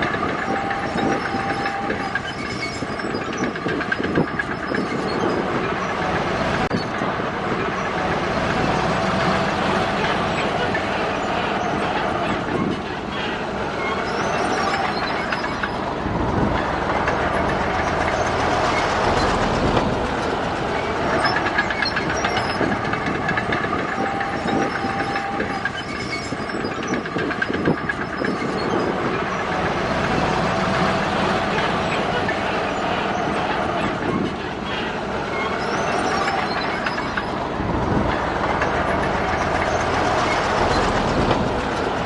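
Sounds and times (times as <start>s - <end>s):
diesel engine under load: 0.0s - 42.0s
steel tracks clanking: 0.0s - 42.0s.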